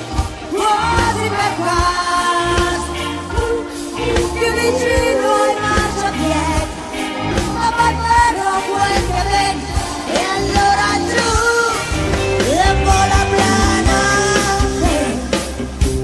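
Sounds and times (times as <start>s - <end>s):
bass guitar: 0.0s - 16.0s
drums: 0.0s - 16.0s
woman singing: 0.5s - 15.6s.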